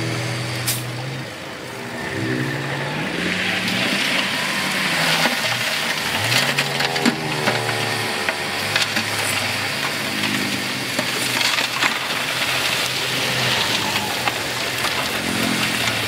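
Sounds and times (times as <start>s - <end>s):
diesel engine revving: 0.0s - 16.0s
rock grinding and crackling: 1.8s - 16.0s.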